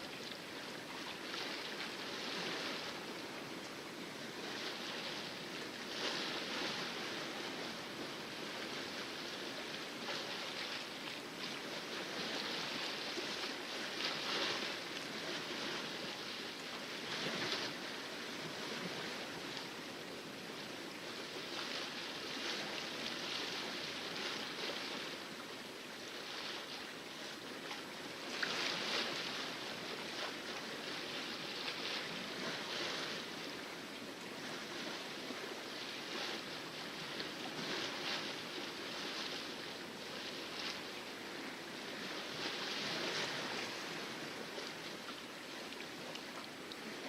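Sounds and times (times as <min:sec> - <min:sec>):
water rushing along boat hull: 0:00.0 - 0:47.0.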